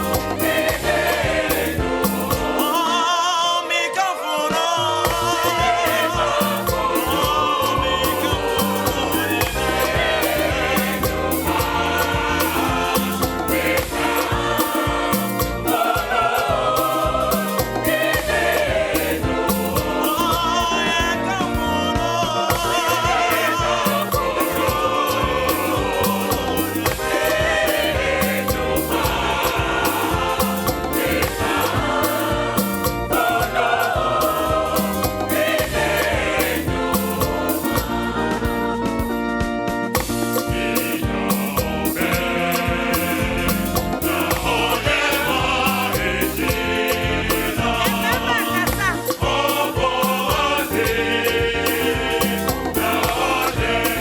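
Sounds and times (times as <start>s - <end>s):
band accompaniment with steady beat: 0.0s - 3.0s, 5.0s - 54.0s
choir singing gospel music: 0.0s - 54.0s.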